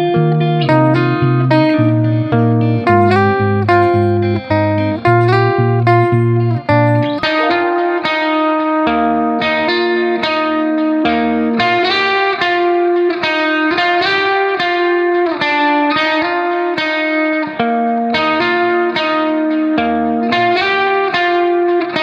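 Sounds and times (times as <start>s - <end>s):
picked guitar melody: 0.0s - 22.0s.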